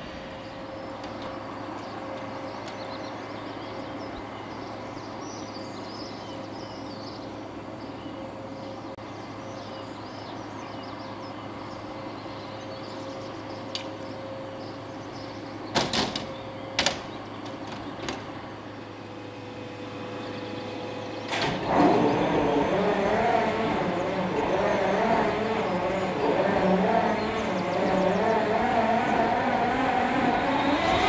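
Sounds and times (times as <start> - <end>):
diesel locomotive idling: 0.0 - 31.0.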